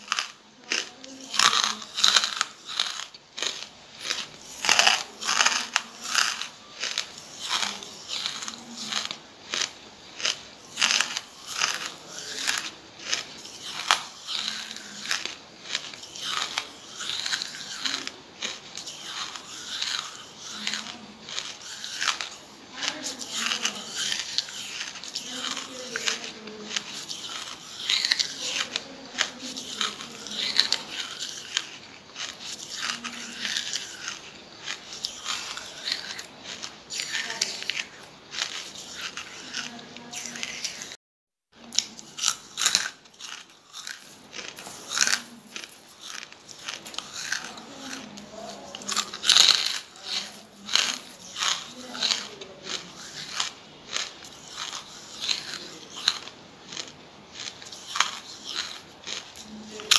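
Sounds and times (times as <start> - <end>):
charcoal being chewed: 0.0 - 59.9.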